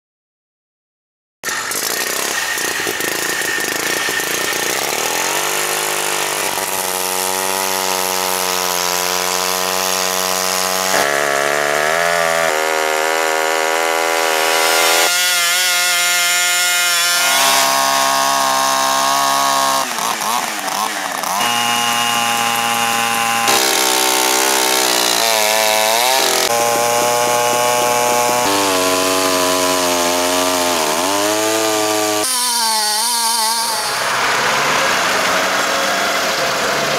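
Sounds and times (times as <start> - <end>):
chainsaws cutting logs: 1.4 - 36.9.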